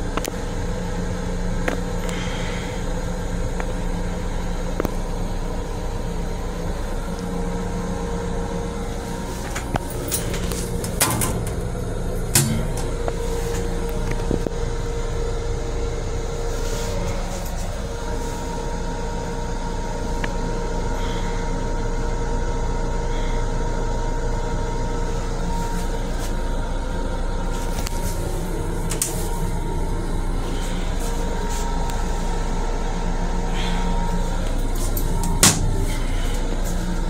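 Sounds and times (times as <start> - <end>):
electric railcar hum and rumble: 0.0 - 37.0.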